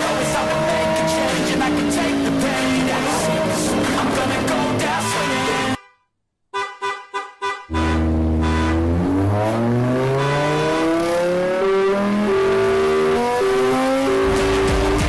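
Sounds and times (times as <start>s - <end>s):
race car engine accelerating: 0.0s - 5.7s, 7.7s - 15.0s.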